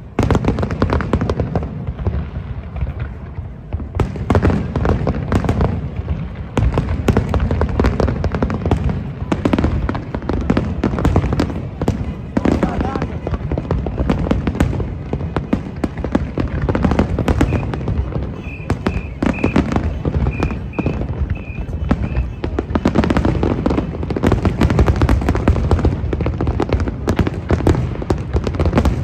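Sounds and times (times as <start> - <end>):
fireworks crackling and booming: 0.0 - 29.0.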